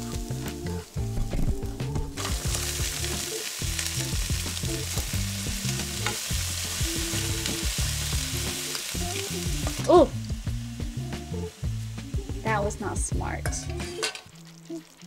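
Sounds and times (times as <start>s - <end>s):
vegetables sizzling in oiled pan: 2.2s - 15.0s.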